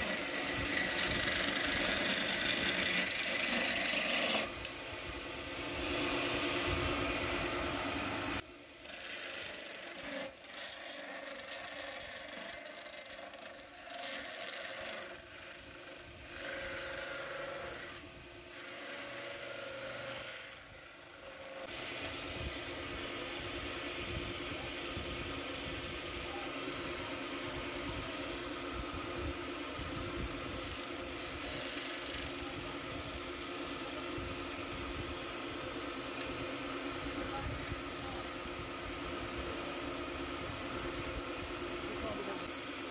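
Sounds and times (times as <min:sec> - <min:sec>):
wood lathe motor hum: 0:00.0 - 0:29.6, 0:30.2 - 0:42.9
chisel cutting spinning wood: 0:00.0 - 0:42.9.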